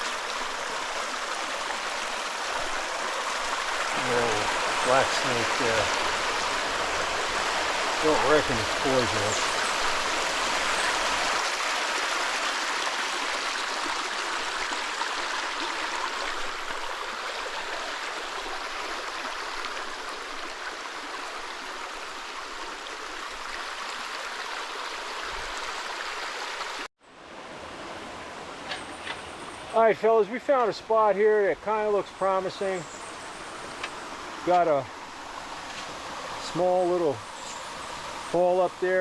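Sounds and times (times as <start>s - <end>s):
creek water rushing: 0.0s - 39.0s.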